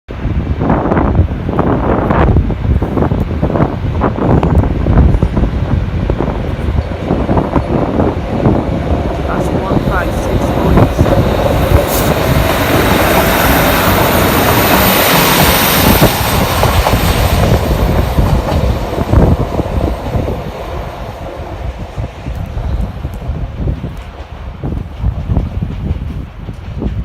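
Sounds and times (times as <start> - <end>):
train passing: 0.1 - 27.0.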